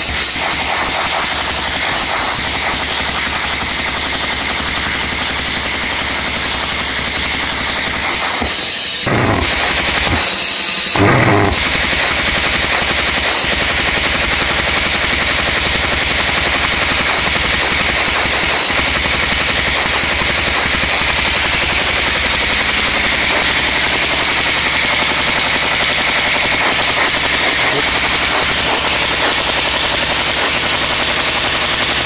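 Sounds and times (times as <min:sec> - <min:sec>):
pulse jet engine popping: 0:00.0 - 0:31.5.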